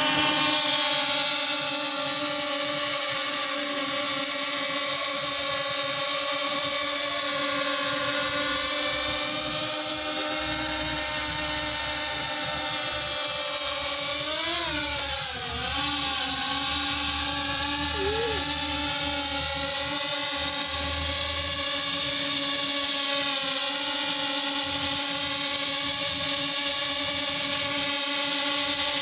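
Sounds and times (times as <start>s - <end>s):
drone propellers whining: 0.0s - 28.1s.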